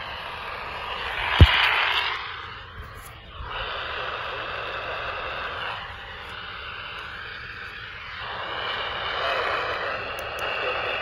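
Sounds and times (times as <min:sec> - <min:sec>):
radio hiss and static: 0:00.0 - 0:11.0.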